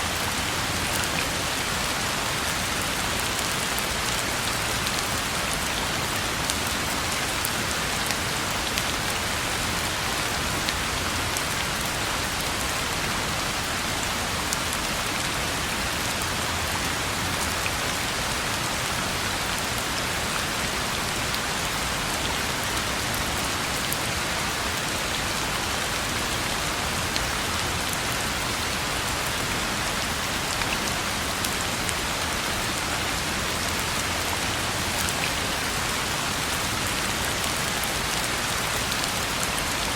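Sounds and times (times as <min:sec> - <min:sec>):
rain hissing on road: 0:00.0 - 0:39.9.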